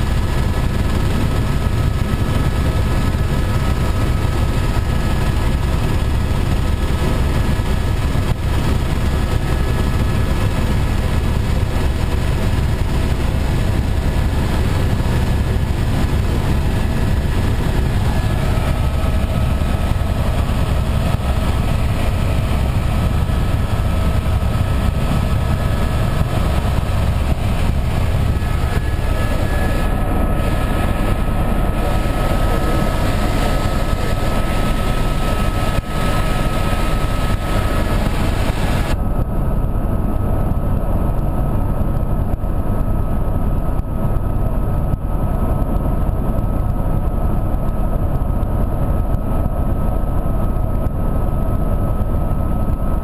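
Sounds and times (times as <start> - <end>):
helicopter engine and rotor noise: 0.0 - 53.0
thin steady whine: 0.0 - 53.0.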